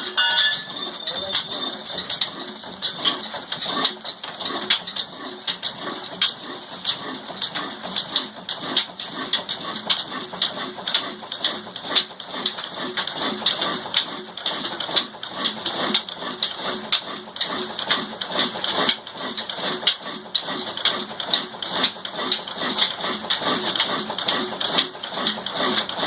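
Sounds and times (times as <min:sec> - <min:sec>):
stationary diesel engine running: 0:00.0 - 0:26.0.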